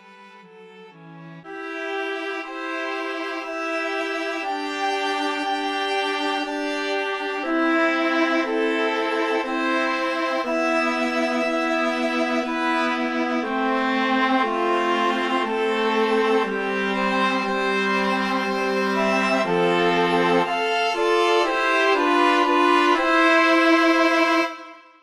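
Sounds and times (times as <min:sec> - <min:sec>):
slow string music: 0:00.0 - 0:25.0.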